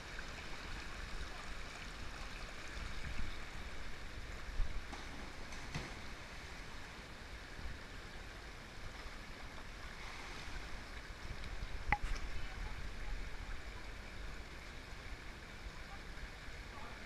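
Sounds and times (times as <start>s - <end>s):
river water running and splashing: 0.0s - 17.0s.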